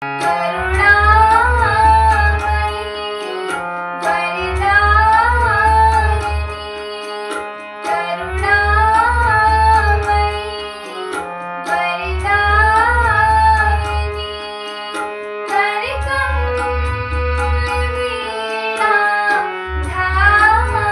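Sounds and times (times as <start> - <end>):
devotional music gliding melody: 0.0 - 20.9
low rhythmic percussion: 0.0 - 20.9.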